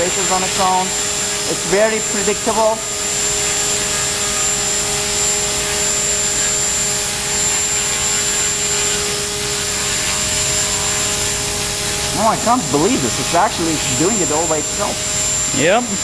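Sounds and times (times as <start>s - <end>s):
electric motor whine: 0.0s - 16.0s
rotor blades rushing: 0.0s - 16.0s.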